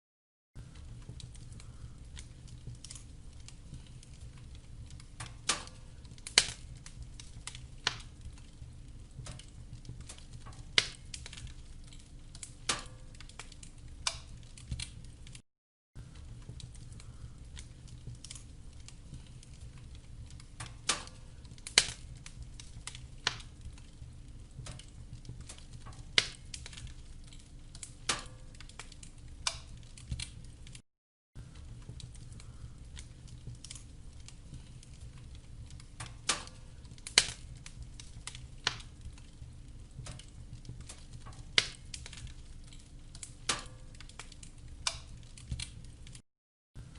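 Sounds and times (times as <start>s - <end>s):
wood fire crackling: 0.6s - 15.4s, 16.0s - 30.8s, 31.4s - 46.2s.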